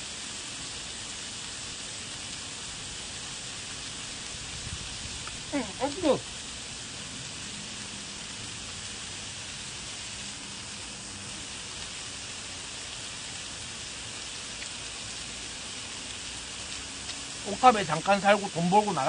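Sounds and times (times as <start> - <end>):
meat sizzling on a grill: 0.0 - 19.0.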